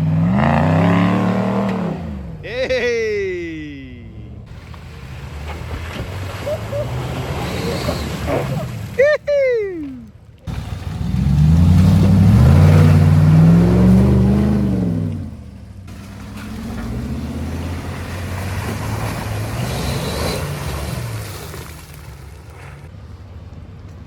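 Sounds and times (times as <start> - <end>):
truck engine revving: 0.0 - 2.6, 3.3 - 9.9, 10.5 - 22.9.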